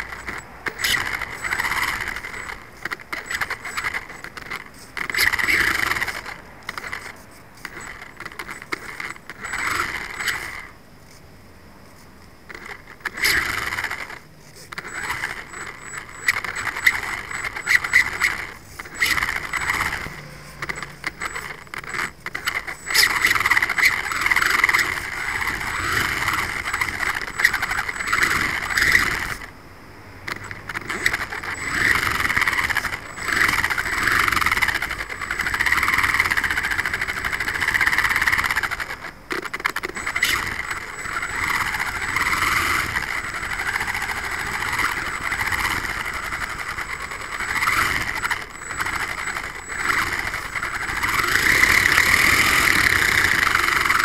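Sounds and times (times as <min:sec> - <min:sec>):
rc car motor running: 0:00.0 - 0:29.6, 0:30.2 - 0:54.0.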